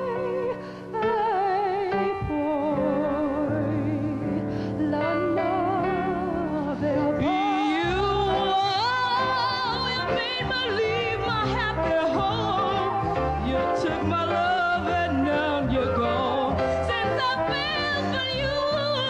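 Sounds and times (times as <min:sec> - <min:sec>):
instrumental accompaniment: 0:00.0 - 0:19.0
woman singing with vibrato: 0:00.0 - 0:19.0.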